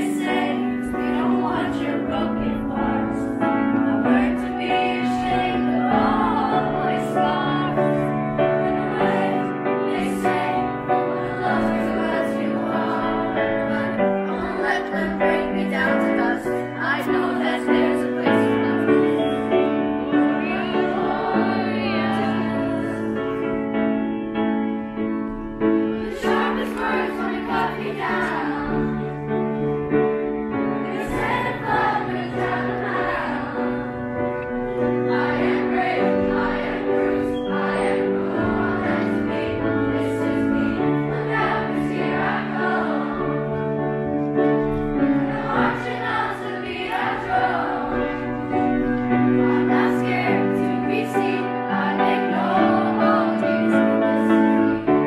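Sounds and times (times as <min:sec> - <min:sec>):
group of voices singing: 0:00.0 - 0:23.8, 0:25.7 - 0:55.0.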